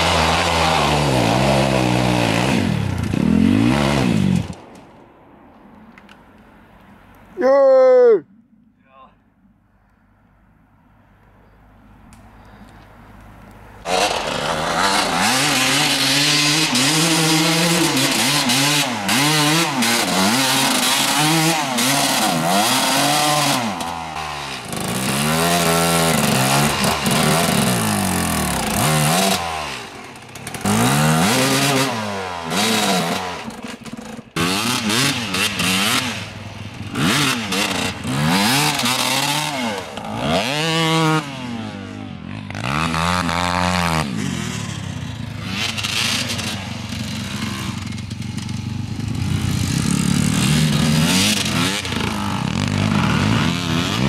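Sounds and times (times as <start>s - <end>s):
dirt bike engines revving: 0.0s - 4.9s, 11.9s - 54.0s.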